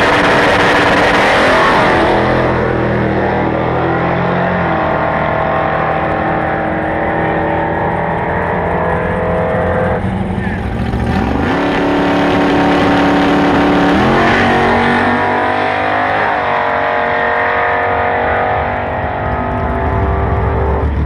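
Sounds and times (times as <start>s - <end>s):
drag car engine accelerating: 0.0s - 21.0s.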